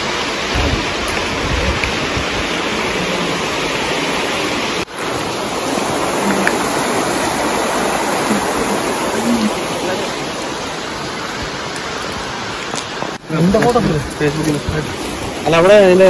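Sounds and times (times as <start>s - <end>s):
low rumbles: 0.0s - 16.0s
river rushing over rocks: 0.0s - 16.0s.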